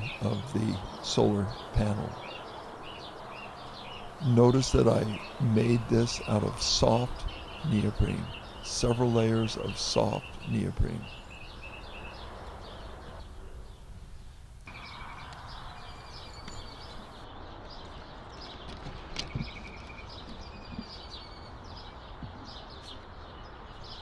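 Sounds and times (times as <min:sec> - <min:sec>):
outdoor background hum: 0:00.0 - 0:24.0
small birds chirping: 0:00.0 - 0:24.0.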